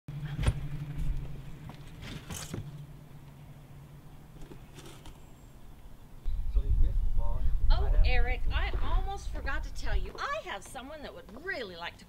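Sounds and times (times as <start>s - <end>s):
low mechanical hum: 0.1s - 10.4s.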